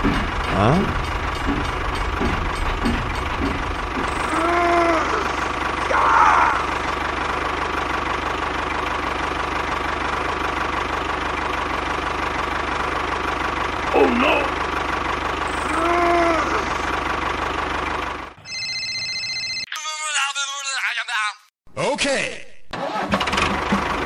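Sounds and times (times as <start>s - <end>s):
diesel tractor engine idling: 0.0s - 18.9s, 23.2s - 24.0s.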